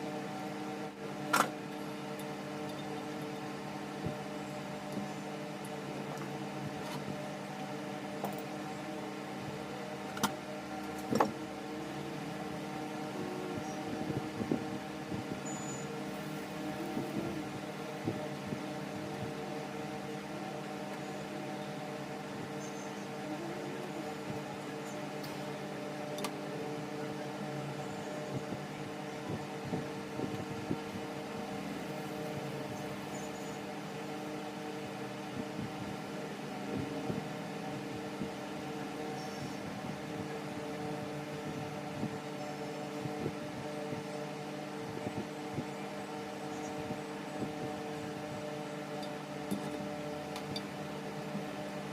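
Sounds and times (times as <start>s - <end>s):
electric fan humming: 0.0s - 51.9s.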